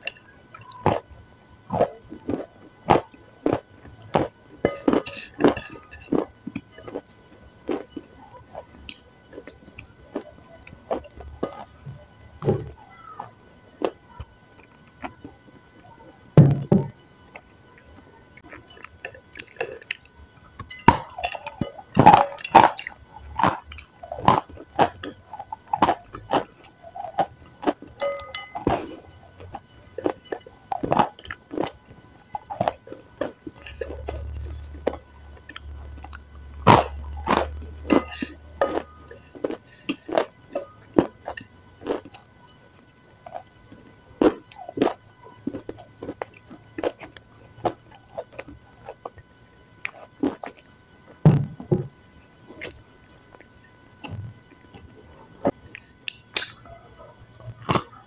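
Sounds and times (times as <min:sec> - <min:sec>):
person chewing sticky food: 0:00.0 - 0:15.3, 0:17.3 - 0:58.0.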